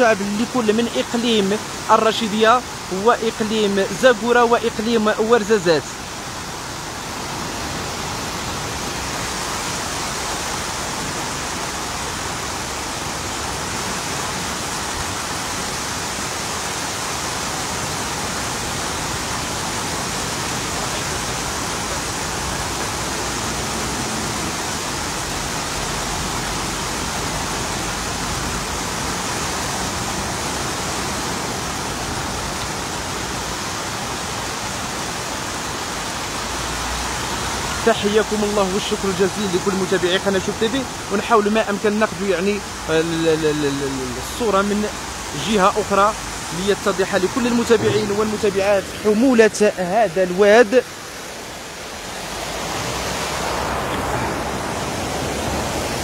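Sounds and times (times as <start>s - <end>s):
water pouring over embankment: 0.0s - 56.0s.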